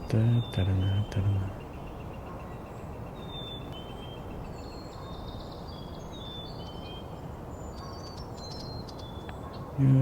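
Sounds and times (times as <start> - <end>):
sparrow whistled song: 0.0 - 9.8.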